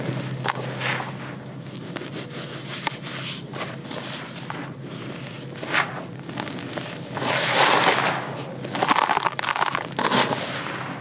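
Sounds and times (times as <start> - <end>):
dry dirt crunching: 0.0 - 11.0.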